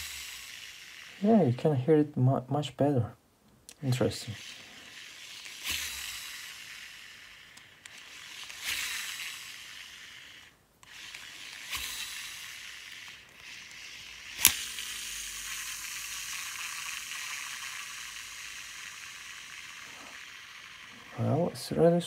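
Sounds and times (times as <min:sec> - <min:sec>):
reel spool whirring: 0:00.0 - 0:01.6, 0:04.2 - 0:22.0.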